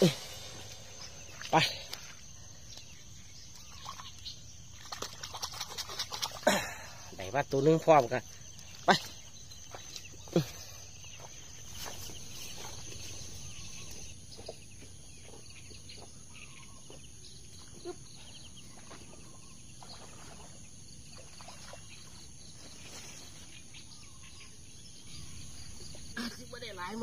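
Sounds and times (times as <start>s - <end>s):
birds chirping: 0.0s - 27.0s
high insect whine: 0.0s - 27.0s.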